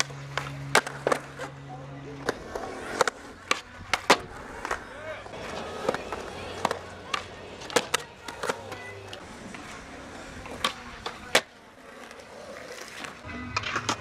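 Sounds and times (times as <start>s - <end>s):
skateboard popping and landing: 0.0s - 1.5s, 2.2s - 4.8s, 5.4s - 14.0s
skateboard wheels rolling on concrete: 0.0s - 14.0s.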